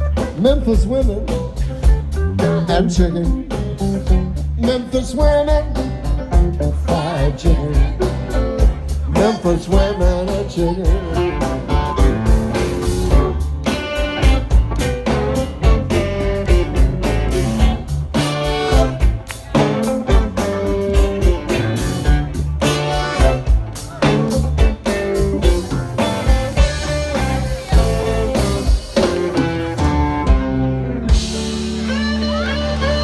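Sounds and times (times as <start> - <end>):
bass: 0.0 - 33.0
guitar: 0.0 - 33.0
steady drum beat: 0.0 - 33.0.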